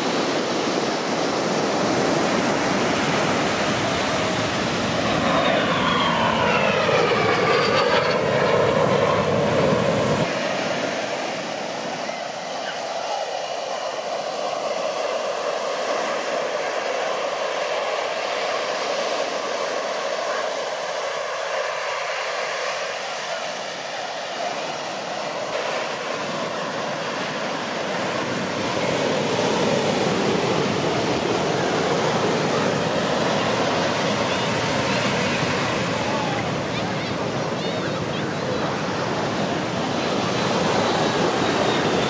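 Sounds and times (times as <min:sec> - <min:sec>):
distant helicopter rotor noise: 0:00.0 - 0:42.0.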